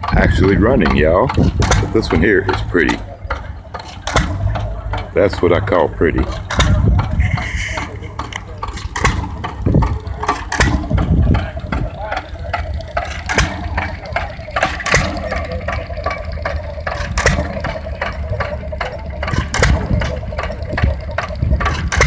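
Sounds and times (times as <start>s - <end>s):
engine knocks: 0.0s - 22.0s
low rumble: 0.0s - 22.0s
old engines running: 0.0s - 22.0s
people talking: 0.0s - 22.0s.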